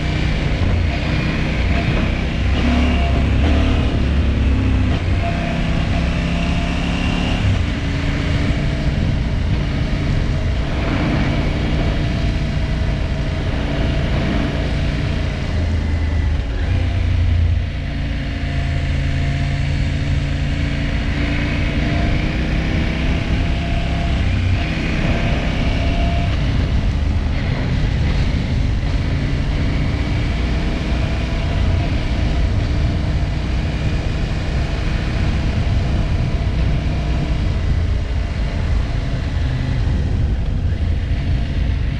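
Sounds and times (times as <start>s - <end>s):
motorcycle engine running: 0.0s - 41.9s
road noise: 0.0s - 41.9s
wind noise: 0.0s - 41.9s.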